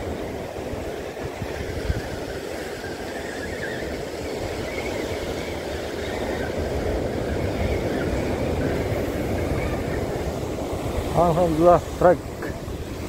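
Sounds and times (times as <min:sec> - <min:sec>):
sea surf rumbling: 0:00.0 - 0:13.0
wind buffeting the microphone: 0:00.0 - 0:13.0.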